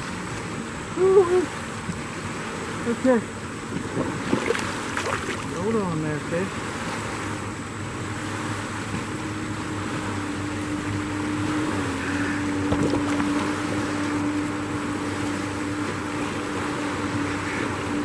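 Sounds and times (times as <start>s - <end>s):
motorboat engine running: 0.0s - 18.0s
water noise: 0.0s - 18.0s
wind: 0.0s - 18.0s.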